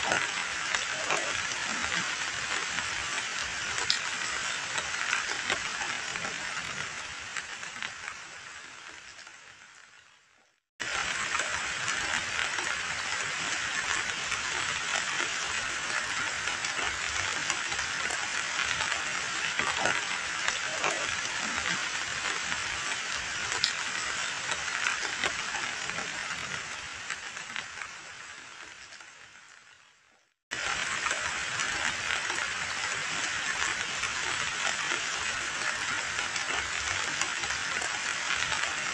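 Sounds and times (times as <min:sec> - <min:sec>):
heavy rain splashing into water: 0:00.0 - 0:09.3, 0:10.8 - 0:29.3, 0:30.5 - 0:38.9.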